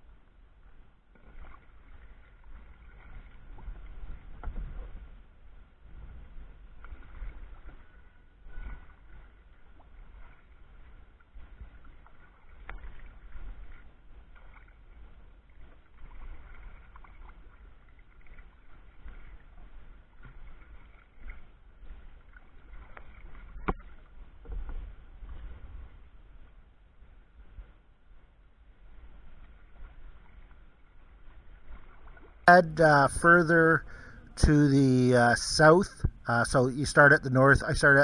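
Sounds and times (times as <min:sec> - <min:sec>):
water rippling along hull: 0:00.0 - 0:38.0.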